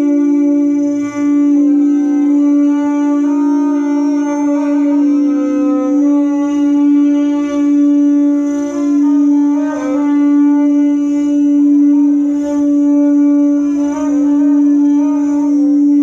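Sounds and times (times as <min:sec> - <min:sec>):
sustained droning note: 0:00.0 - 0:16.0.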